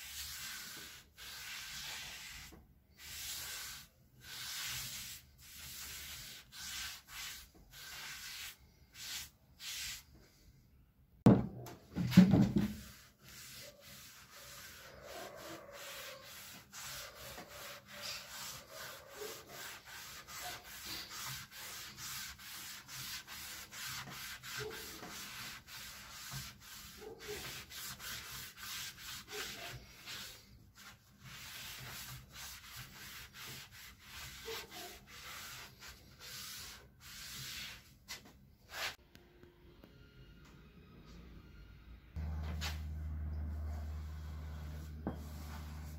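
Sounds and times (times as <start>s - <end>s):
sandpaper rubbing on wood: 0.0s - 10.0s, 12.6s - 39.0s, 43.7s - 45.9s.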